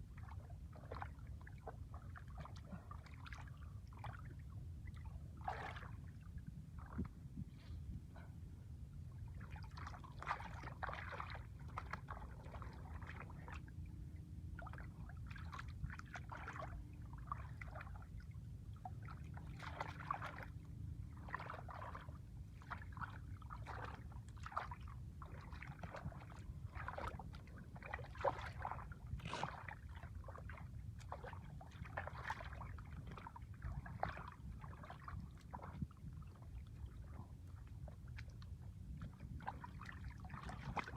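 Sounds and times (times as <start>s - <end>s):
shallow water splashing: 0.0s - 7.6s, 9.2s - 40.9s
steady low rumble: 0.0s - 40.9s.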